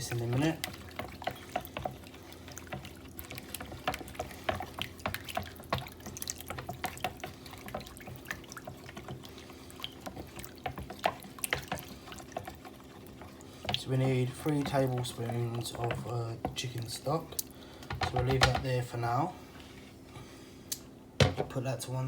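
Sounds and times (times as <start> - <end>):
water boiling in a pan: 0.0 - 19.3.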